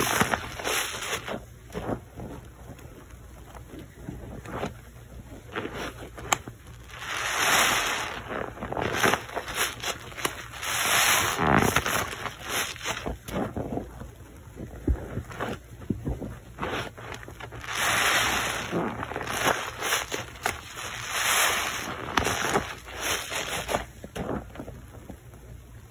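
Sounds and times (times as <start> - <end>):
sponges squelching in foam: 0.0 - 25.5.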